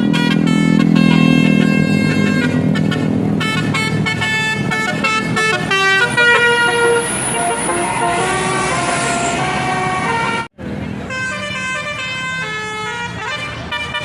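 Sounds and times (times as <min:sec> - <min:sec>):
multi-tone bus air horn tune: 0:00.0 - 0:14.0.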